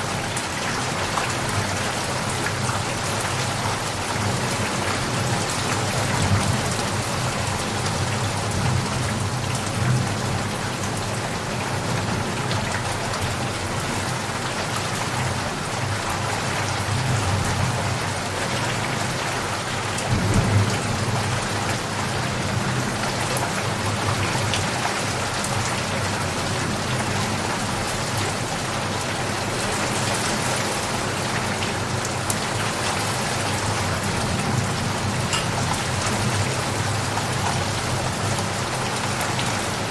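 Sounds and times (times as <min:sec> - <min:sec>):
dense rain on surfaces: 0:00.0 - 0:39.9.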